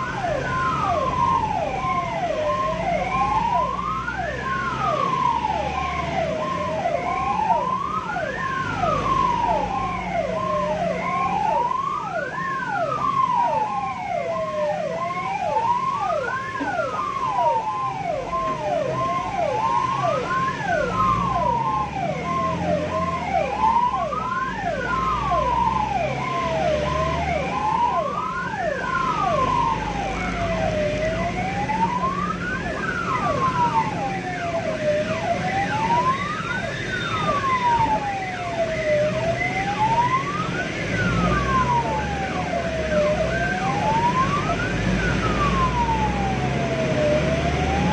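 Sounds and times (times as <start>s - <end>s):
ambulance siren wailing: 0.0s - 47.9s
vehicle rumble: 0.0s - 47.9s.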